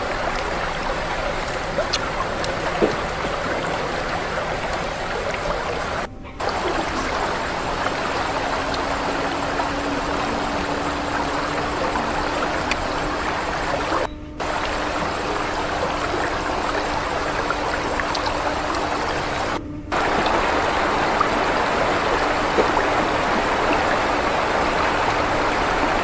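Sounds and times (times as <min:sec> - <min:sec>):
faint clicks: 0:00.0 - 0:26.0
running water rushing: 0:00.0 - 0:26.0.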